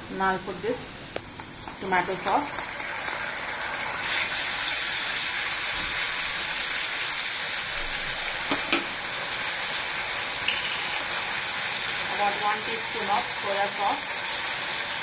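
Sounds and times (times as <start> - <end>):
oil sizzling in a wok: 0.1 - 15.0.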